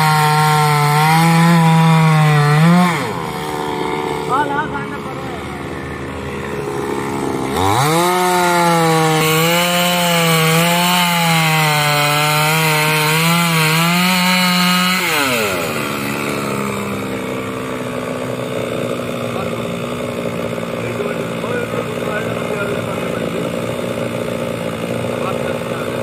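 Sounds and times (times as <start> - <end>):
chainsaw cutting log: 0.0 - 26.0
chainsaw idling: 0.0 - 26.0.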